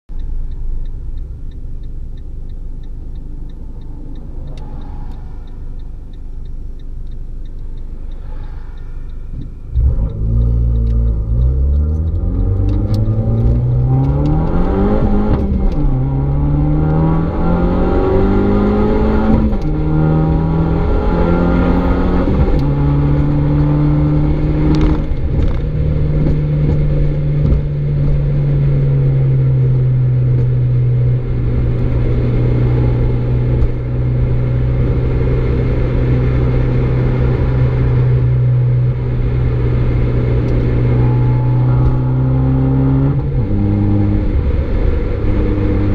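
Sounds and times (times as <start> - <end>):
car engine accelerating through gears: 0.1 - 45.9.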